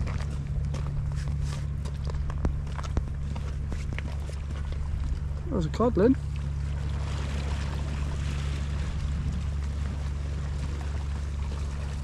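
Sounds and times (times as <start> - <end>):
sea water lapping on rocks: 0.0 - 12.0
wind rumble on microphone: 0.0 - 12.0.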